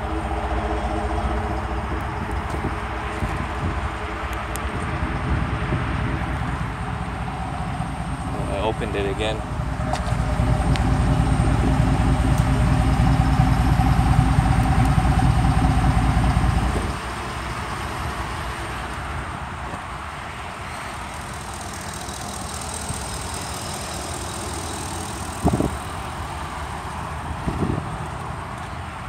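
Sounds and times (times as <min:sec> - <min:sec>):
truck engine idling with loud exhaust: 0:00.0 - 0:29.0.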